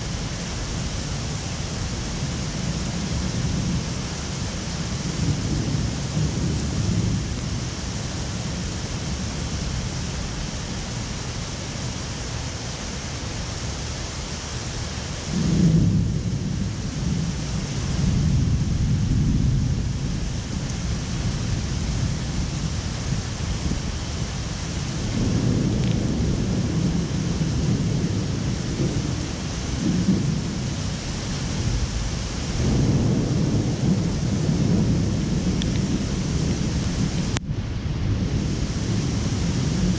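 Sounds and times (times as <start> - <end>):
low thunder rumble: 0.0 - 14.0, 14.6 - 39.9
heavy rain hissing: 0.0 - 39.9.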